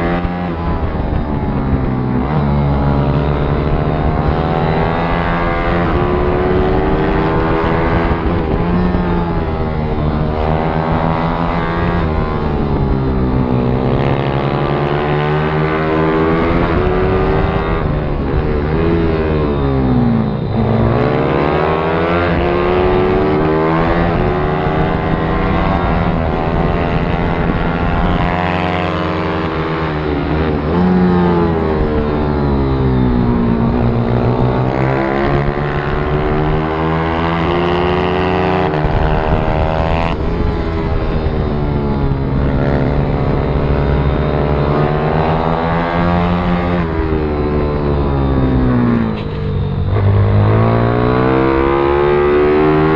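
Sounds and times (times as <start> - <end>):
pit bike engines revving: 0.0 - 52.9.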